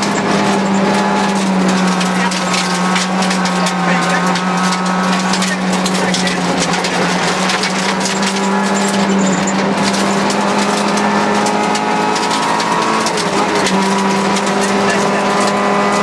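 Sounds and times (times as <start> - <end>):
gravel clattering against underbody: 0.0 - 15.9
rally car engine at high revs: 0.0 - 16.0.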